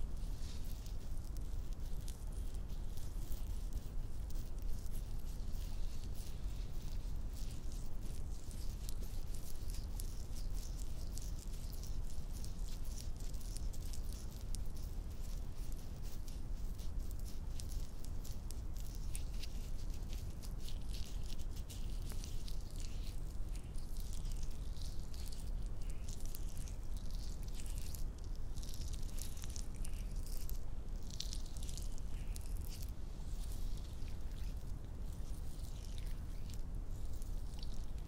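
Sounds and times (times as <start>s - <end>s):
hands rubbing and scratching: 0.0s - 38.0s.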